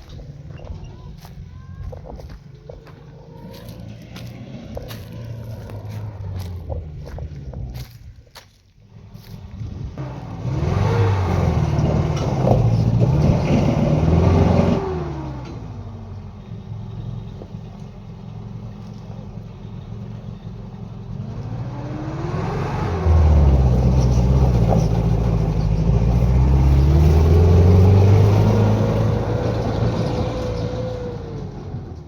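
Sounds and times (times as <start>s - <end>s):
vehicle engine revving: 0.0s - 8.3s, 8.9s - 32.0s.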